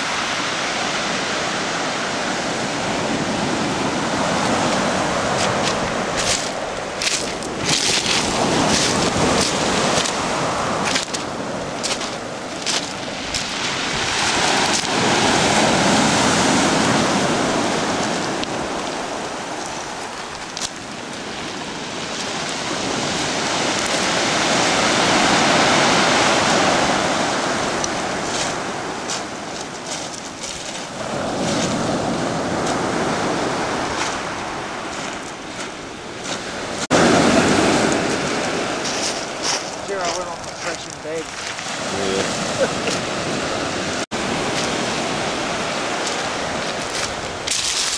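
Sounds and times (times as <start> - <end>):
surf breaking on pebble beach: 0.0 - 47.9
wind on microphone: 0.0 - 47.9.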